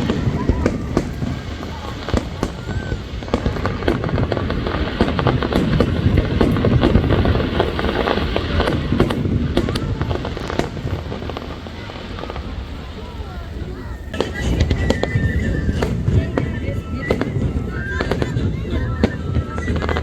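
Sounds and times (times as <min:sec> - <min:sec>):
fireworks booms and crackling: 0:00.0 - 0:20.0.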